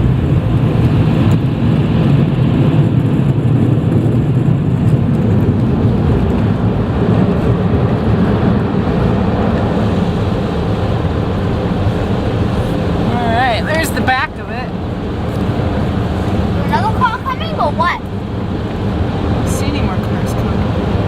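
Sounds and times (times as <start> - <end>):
air dryer blowers rushing: 0.0 - 21.0.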